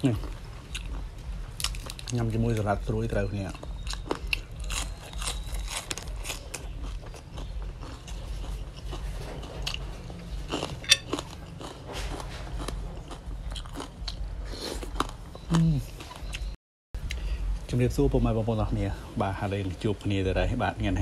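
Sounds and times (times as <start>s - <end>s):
chewing and crunching: 0.0s - 17.2s.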